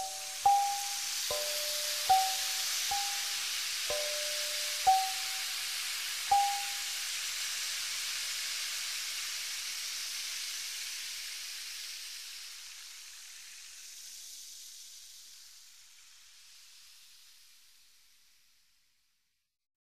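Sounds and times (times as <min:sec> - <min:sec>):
high-pitched hiss: 0:00.0 - 0:19.2.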